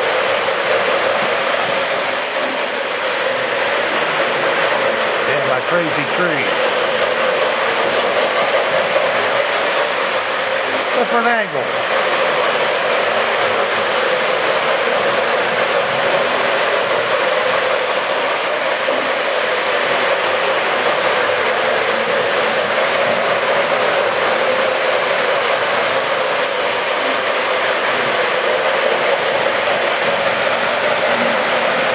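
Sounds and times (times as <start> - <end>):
model train whirring on track: 0.0 - 31.9.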